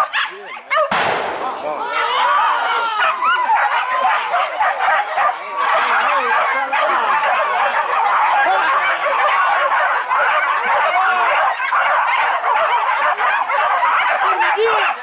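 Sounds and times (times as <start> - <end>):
dogs yelping and baying: 0.0 - 0.9, 1.9 - 15.0.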